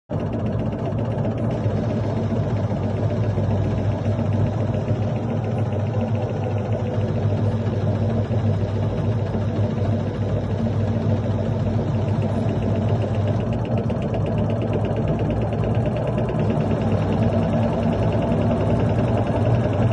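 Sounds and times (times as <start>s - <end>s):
washing machine low hum: 0.1s - 19.9s
washing machine rattling: 0.1s - 19.9s.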